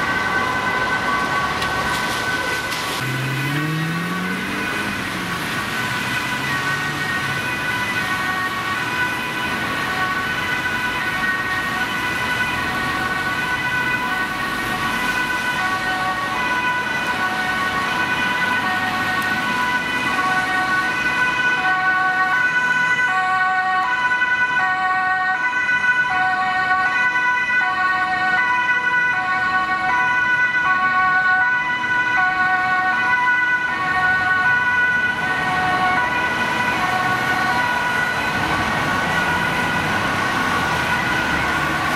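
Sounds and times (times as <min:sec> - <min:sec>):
road traffic: 0:00.0 - 0:41.9
two-tone fire engine siren: 0:00.0 - 0:41.9.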